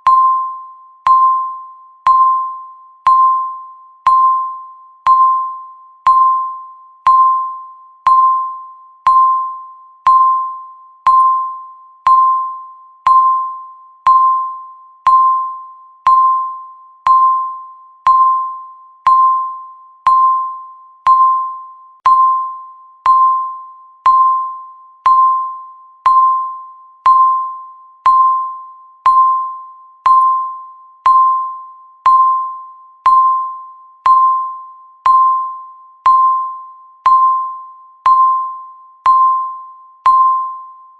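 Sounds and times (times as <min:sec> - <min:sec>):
timer short beeps: 0:00.0 - 0:40.9.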